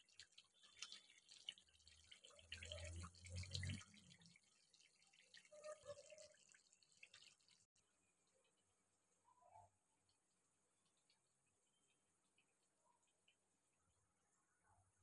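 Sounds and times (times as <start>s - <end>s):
curry bubbling in a pot: 0.0s - 14.5s.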